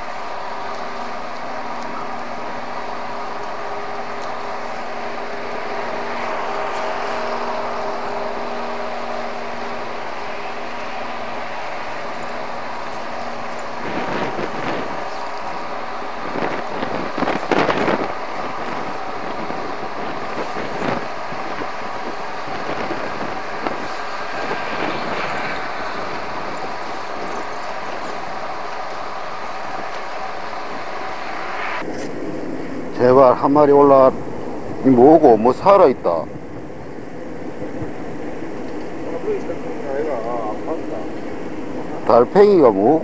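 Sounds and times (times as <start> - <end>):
machinery drone: 0.0 - 43.0
rushing harbour background noise: 0.0 - 43.0.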